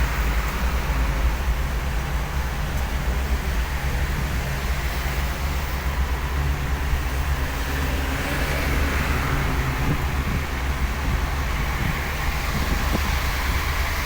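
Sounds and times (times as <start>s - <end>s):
vehicle on wet road: 0.0s - 14.0s.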